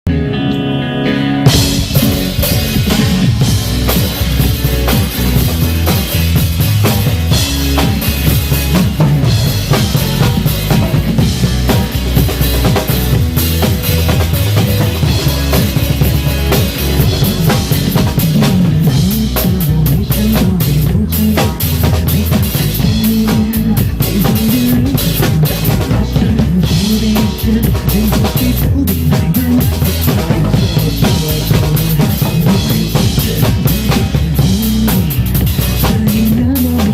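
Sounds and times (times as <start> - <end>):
recorded pop song: 0.1 - 36.9
drum kit playing a beat: 0.2 - 36.9.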